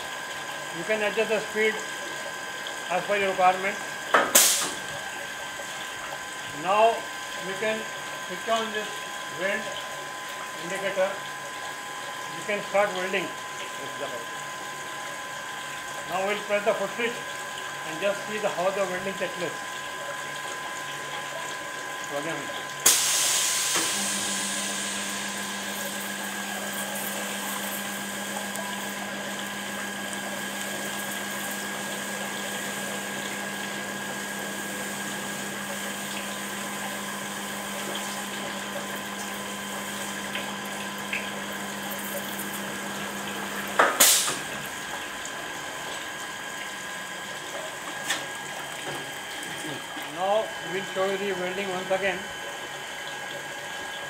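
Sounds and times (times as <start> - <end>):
cooling water hissing and splashing: 0.0 - 54.0
welder electrical hum: 0.0 - 54.0.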